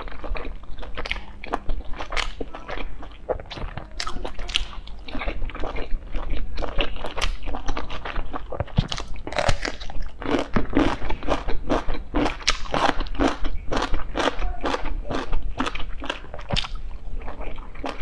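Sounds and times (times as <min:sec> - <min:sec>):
chewing soft dumplings: 0:00.0 - 0:18.0.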